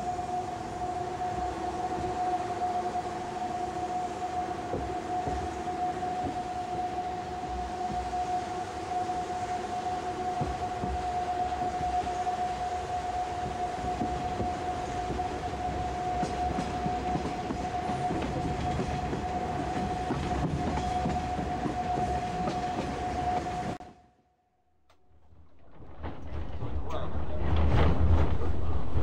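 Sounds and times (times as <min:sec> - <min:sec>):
train interior running rumble: 0:00.0 - 0:23.8, 0:25.1 - 0:29.0.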